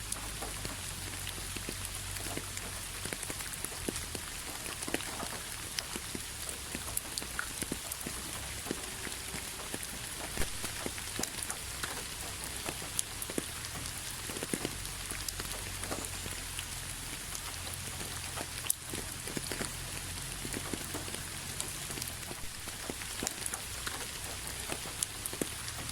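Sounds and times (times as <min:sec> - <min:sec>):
rain on a hard surface: 0:00.0 - 0:25.9
raindrops ticking and plinking: 0:00.0 - 0:25.9.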